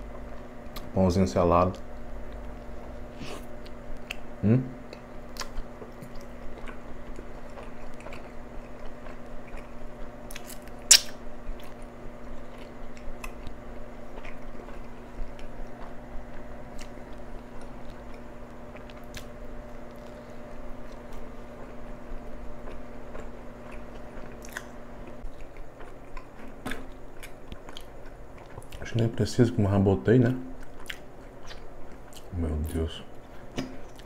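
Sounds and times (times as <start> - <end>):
chewing with crunches: 0.0 - 1.0, 1.7 - 29.1, 30.5 - 34.0
steady low hum: 0.0 - 34.0.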